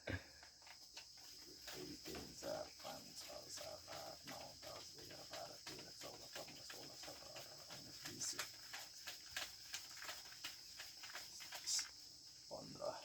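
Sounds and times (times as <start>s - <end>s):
insects chirring: 0.0s - 13.0s
small clicks and rustles: 0.3s - 12.4s.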